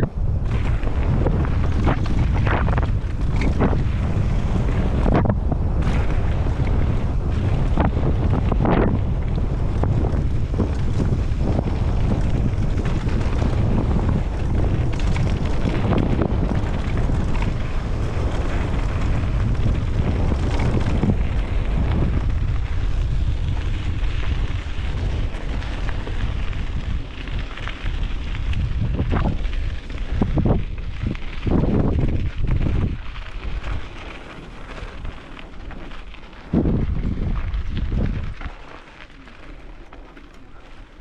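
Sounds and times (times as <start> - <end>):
bike knocking and rattling: 0.0 - 41.0
tyres crunching on dirt trail: 0.0 - 41.0
wind buffeting microphone: 0.0 - 41.0.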